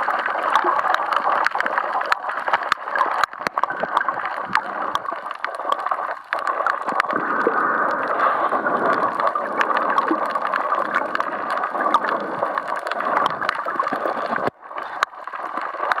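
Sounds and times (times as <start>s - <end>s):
muffled underwater rush: 0.0s - 16.0s
sharp underwater clicks: 0.0s - 16.0s.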